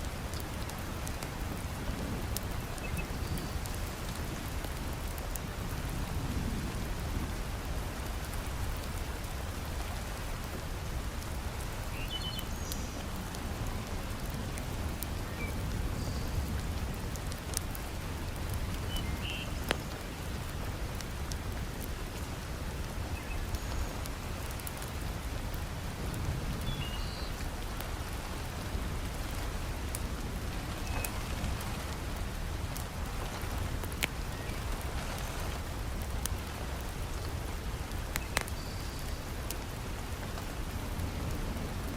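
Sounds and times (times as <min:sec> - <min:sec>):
heavy rain falling: 0:00.0 - 0:41.9
wood fire crackling: 0:00.0 - 0:41.9.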